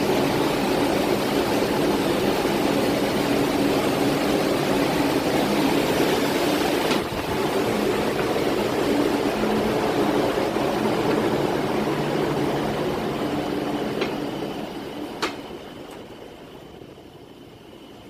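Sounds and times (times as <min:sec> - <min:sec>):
large diesel engines running: 0:00.0 - 0:18.0.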